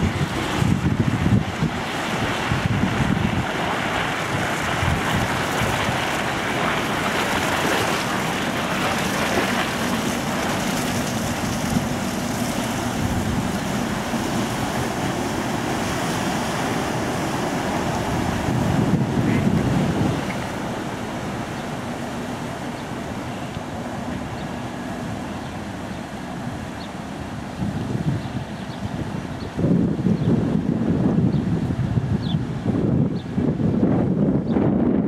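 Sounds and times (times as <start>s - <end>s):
ship engine low rumble: 0.0s - 35.0s
water washing along hull: 0.0s - 35.0s
wind buffeting microphone: 0.0s - 35.0s.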